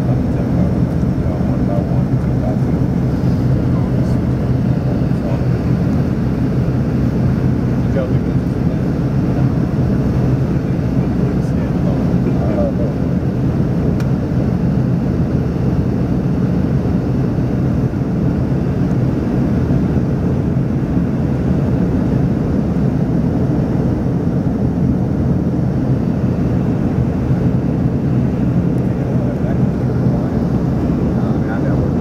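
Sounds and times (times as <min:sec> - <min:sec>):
jet engines droning: 0:00.0 - 0:32.0.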